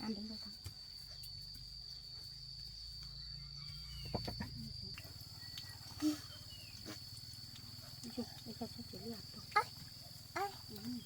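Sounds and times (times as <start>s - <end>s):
insect high-pitched tone: 0.0s - 11.0s.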